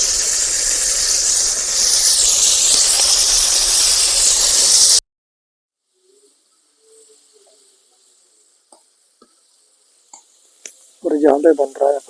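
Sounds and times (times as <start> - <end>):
loud hissing from hot oven: 0.0 - 5.0, 5.8 - 12.0.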